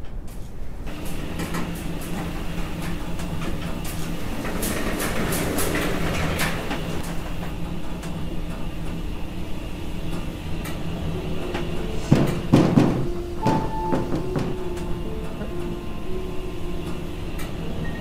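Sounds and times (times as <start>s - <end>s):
lift doors sliding open: 0.0s - 18.0s
low steady hum: 0.0s - 18.0s.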